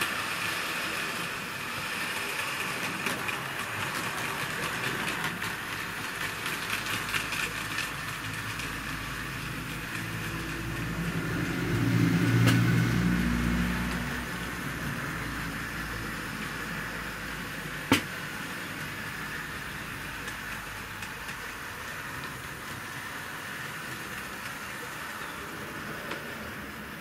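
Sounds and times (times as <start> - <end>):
model train motor hum: 0.0 - 27.0
model train wheels rattling on rails: 0.0 - 27.0.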